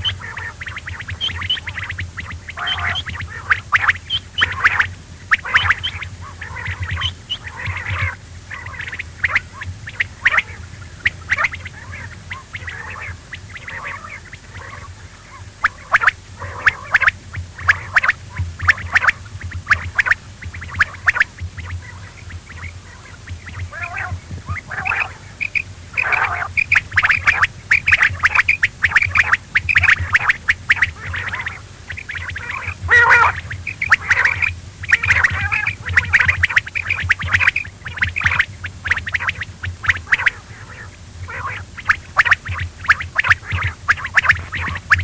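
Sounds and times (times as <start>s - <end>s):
quail chattering call: 0.0s - 45.0s
steady low hum: 0.0s - 45.0s.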